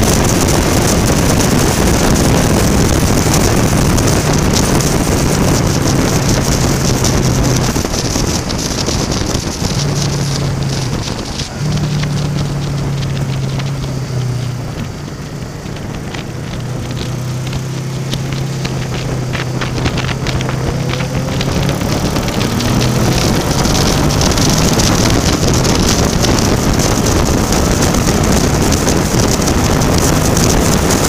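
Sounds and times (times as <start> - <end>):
motorcycle engine hum: 0.0 - 31.0
rain ticking on camera: 0.0 - 31.0
wind rushing past helmet: 0.0 - 31.0.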